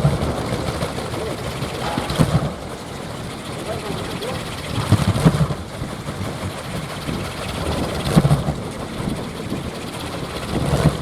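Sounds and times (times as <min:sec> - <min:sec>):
wind propeller whirring: 0:00.0 - 0:11.0.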